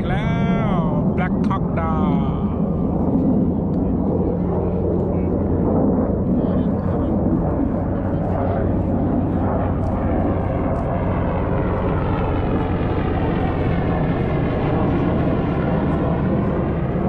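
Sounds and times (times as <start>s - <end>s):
military aircraft flying past: 0.0s - 17.0s.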